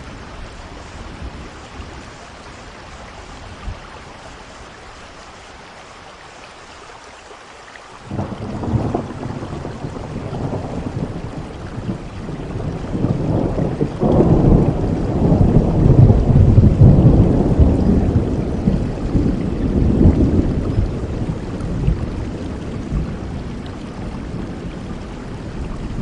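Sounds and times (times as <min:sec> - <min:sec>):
low rumble of thunder: 0:00.0 - 0:05.0, 0:08.1 - 0:26.0
steady rainfall: 0:00.0 - 0:26.0.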